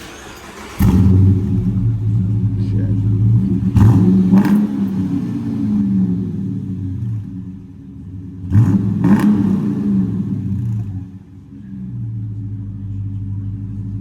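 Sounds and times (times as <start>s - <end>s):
car engine revving then idling: 0.0s - 14.0s.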